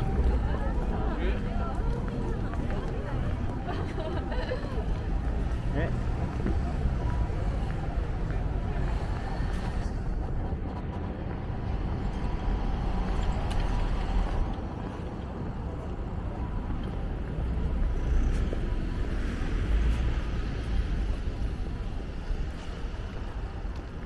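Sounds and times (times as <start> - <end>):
low rumble of road traffic: 0.0 - 24.0
wind: 0.0 - 24.0.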